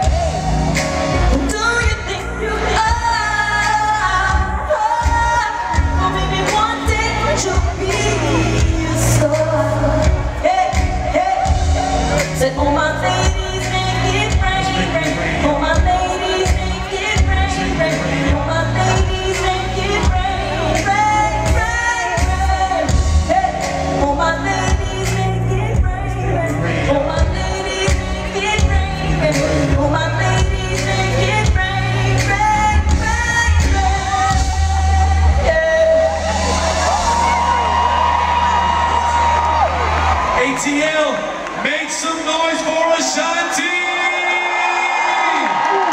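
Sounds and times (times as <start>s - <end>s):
woman singing into microphone: 0.0s - 38.9s
bass and drums: 0.0s - 40.4s.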